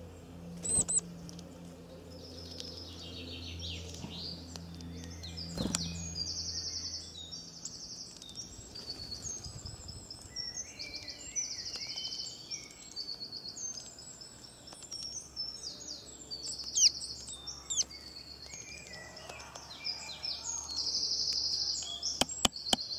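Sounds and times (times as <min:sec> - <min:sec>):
low hum: 0:00.0 - 0:19.6
small birds trilling: 0:00.0 - 0:22.9.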